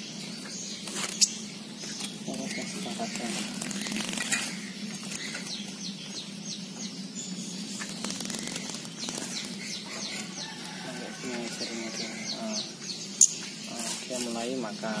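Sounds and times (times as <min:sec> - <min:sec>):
small bird chirping: 0:00.0 - 0:15.0
steady low hum: 0:00.0 - 0:15.0.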